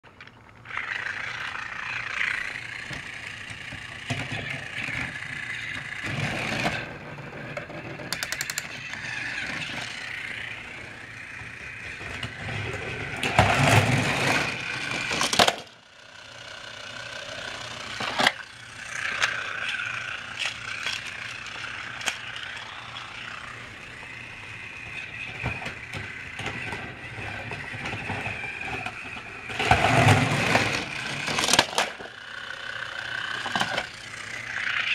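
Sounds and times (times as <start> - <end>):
toy train motor whir: 0.2 - 34.9
toy train wheel clatter: 0.2 - 34.9.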